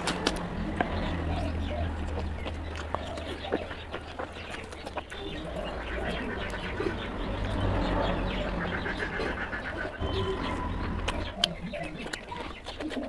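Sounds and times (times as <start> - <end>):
wet chewing and lip-smacking: 0.0 - 7.9, 8.5 - 13.0.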